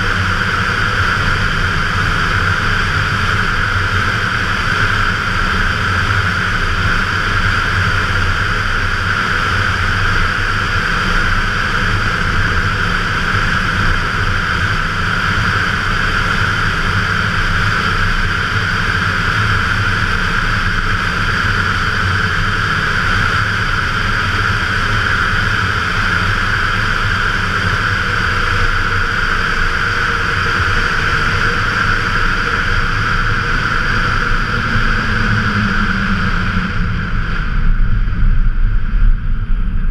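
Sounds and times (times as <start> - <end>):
truck engine droning: 0.0 - 39.9
wind rushing over microphone: 0.0 - 39.9.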